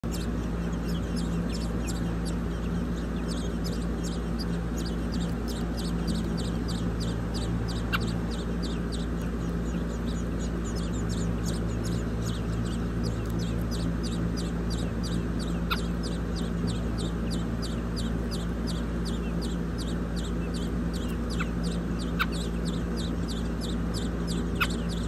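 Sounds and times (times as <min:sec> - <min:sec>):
nestlings chirping: 0:00.0 - 0:25.0
steady low hum: 0:00.0 - 0:25.0.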